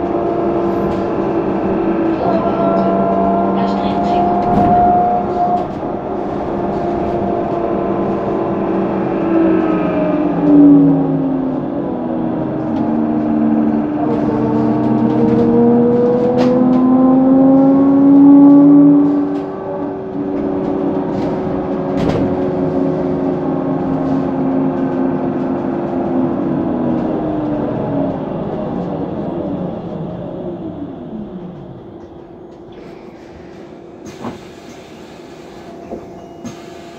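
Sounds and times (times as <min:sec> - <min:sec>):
trolleybus electric drive whine: 0:00.0 - 0:36.9.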